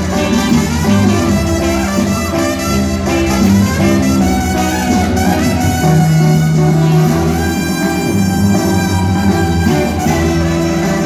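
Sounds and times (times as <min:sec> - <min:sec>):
brass band instrumental music: 0:00.0 - 0:11.0.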